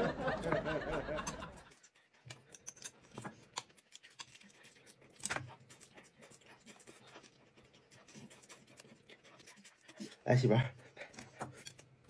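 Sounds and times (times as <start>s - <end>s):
pancake rustling and scratching: 1.2s - 12.0s.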